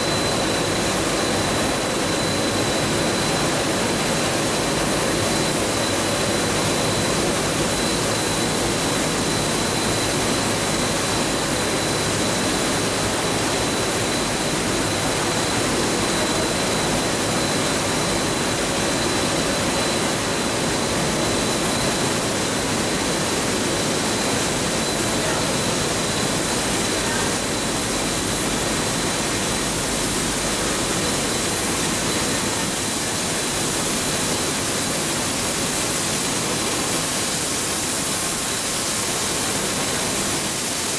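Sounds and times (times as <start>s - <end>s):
production line machinery running: 0.0s - 40.9s.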